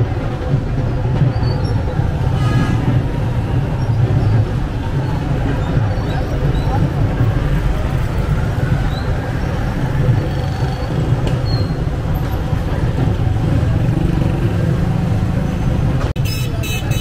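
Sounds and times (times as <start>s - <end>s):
engines and road noise rumbling: 0.0s - 17.0s.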